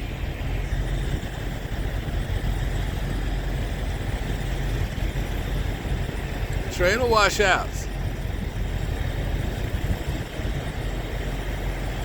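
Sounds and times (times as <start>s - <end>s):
truck diesel engine rumble: 0.0s - 12.0s.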